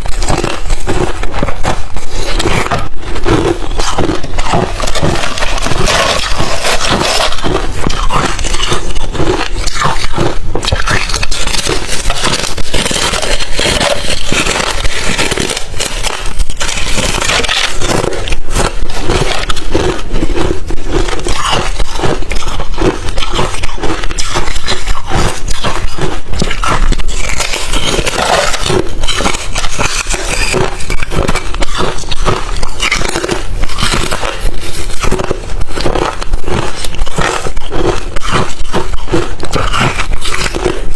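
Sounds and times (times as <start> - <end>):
ice chips being chewed: 0.0 - 40.9.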